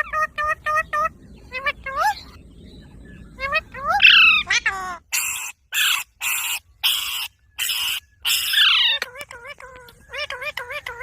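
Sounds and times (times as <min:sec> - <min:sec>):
parrot chirping and squawking: 0:00.0 - 0:02.4, 0:03.2 - 0:11.0.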